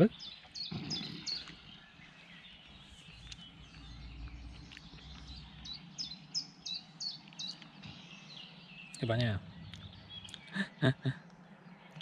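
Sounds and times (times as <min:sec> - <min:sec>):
songbird singing high notes: 0:00.0 - 0:10.9
faint outdoor background noise: 0:00.0 - 0:12.0.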